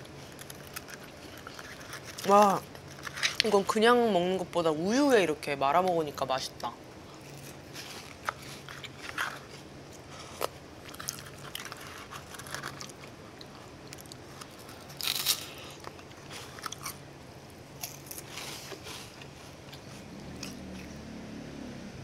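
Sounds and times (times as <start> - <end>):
chewing and crunching biscuits: 0.0 - 3.8, 7.0 - 21.2.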